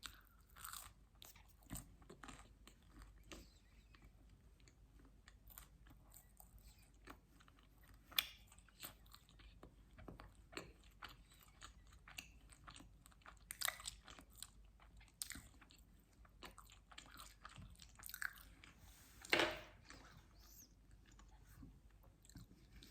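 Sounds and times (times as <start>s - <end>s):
chewing with wet mouth clicks: 0.0s - 18.8s.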